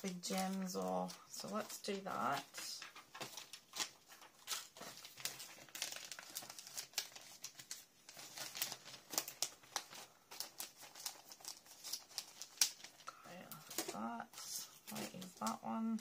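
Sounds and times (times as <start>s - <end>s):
plastic packets crinkling: 0.0s - 16.0s.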